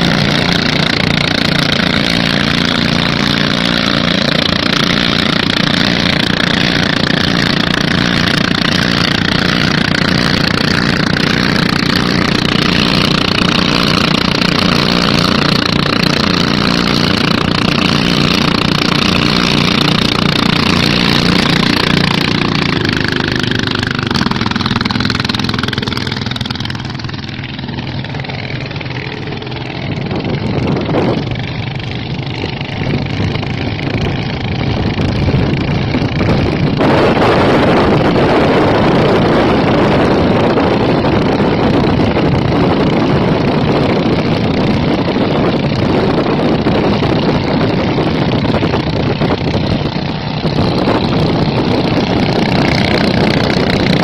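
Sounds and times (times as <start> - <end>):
engines running loudly: 0.0 - 54.0.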